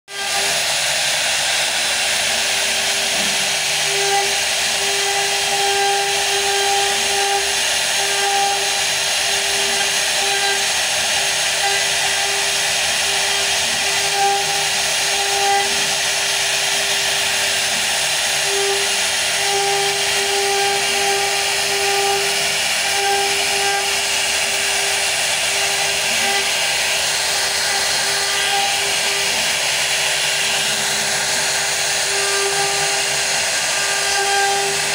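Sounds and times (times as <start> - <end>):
router spindle whine: 0.1 - 34.9
wood cutting hiss: 0.1 - 34.9.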